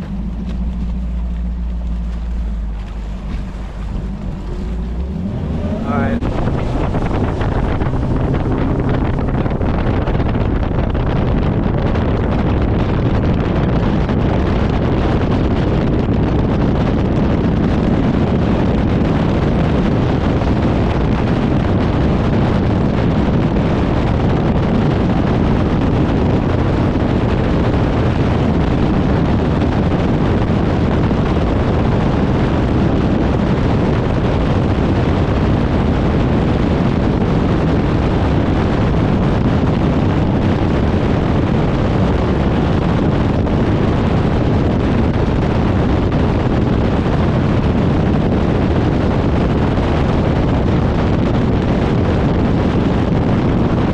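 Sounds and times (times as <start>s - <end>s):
boat hull on water: 0.0s - 53.9s
outboard motor running: 0.0s - 53.9s
wind buffeting microphone: 0.0s - 53.9s.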